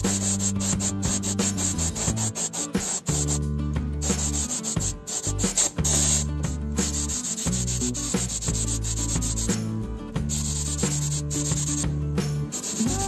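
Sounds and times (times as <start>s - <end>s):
sanding: 0.0s - 3.4s, 4.0s - 9.5s, 10.3s - 11.8s, 12.5s - 13.0s.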